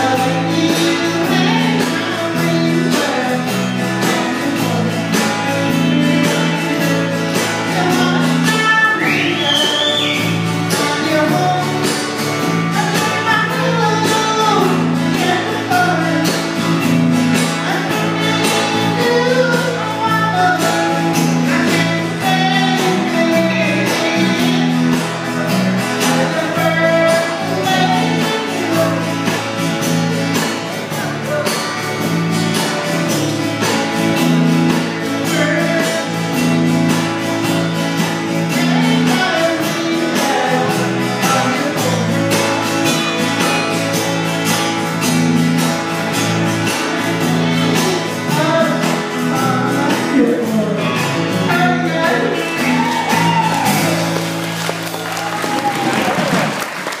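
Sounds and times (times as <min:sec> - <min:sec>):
person singing: 0:00.0 - 0:36.7, 0:37.6 - 0:43.9, 0:46.6 - 0:54.2
drum kit beat: 0:00.0 - 0:57.0
electric and acoustic guitars: 0:00.0 - 0:57.0.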